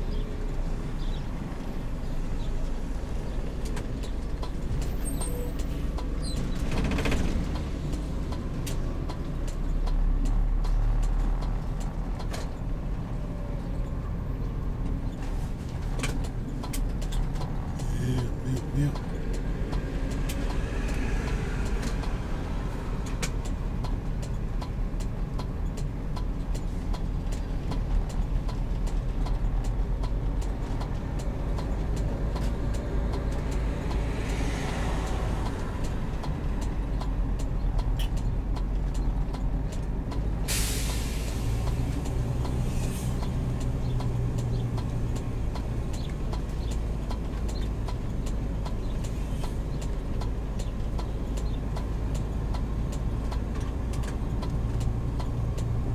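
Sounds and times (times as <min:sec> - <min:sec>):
vehicle engine droning: 0:00.0 - 0:55.9.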